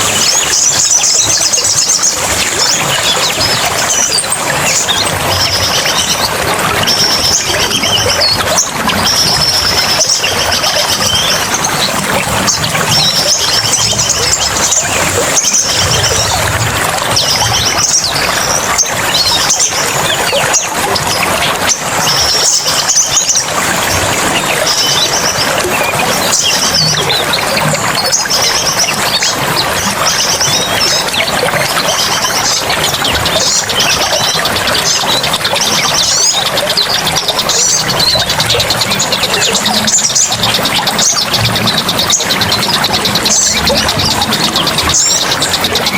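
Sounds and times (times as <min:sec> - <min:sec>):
running water: 0:00.0 - 0:45.9
small birds chirping: 0:00.0 - 0:45.9.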